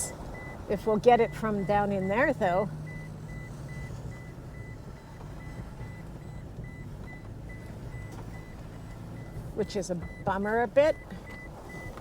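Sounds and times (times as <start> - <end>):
reverse warning beeping: 0.0 - 12.0
truck engine idling: 0.0 - 12.0.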